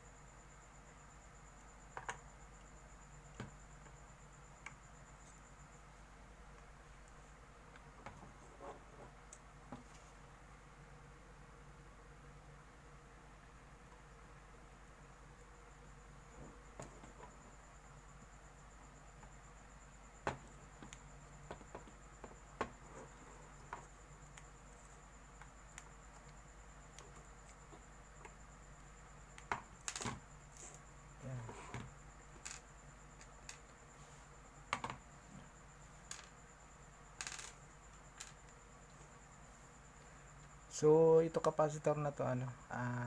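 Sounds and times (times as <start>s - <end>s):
faint high-pitched whine: 0.0s - 43.0s.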